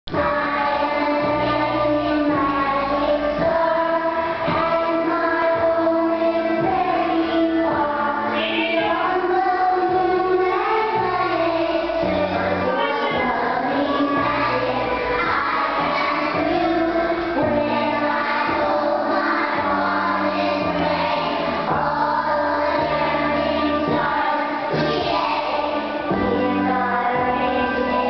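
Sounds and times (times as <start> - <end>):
bass line: 0.1 - 28.0
high voices singing together: 0.1 - 28.0.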